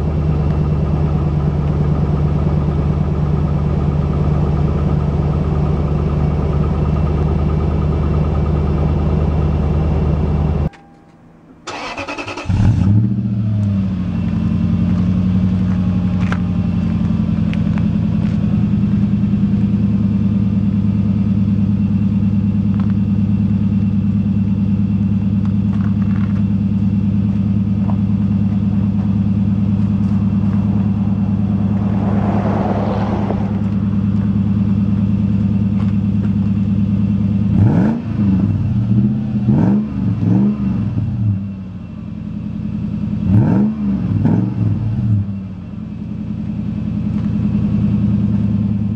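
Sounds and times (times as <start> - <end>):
car exhaust idling and revving: 0.0 - 48.9.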